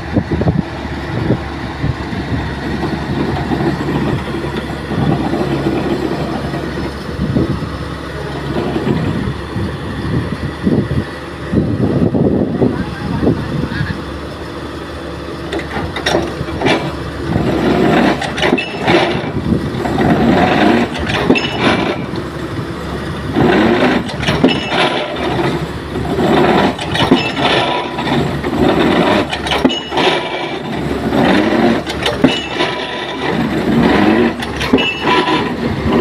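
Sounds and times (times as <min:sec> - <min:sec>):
rig engine running: 0:00.0 - 0:36.0.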